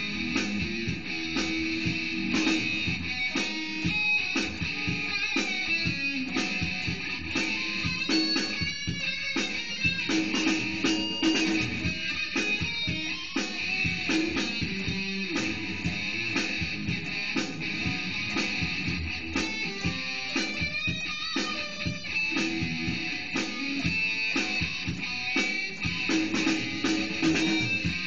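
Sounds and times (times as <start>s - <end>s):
drum machine beat: 0.0s - 28.0s
electric guitar lead lines: 0.0s - 28.0s.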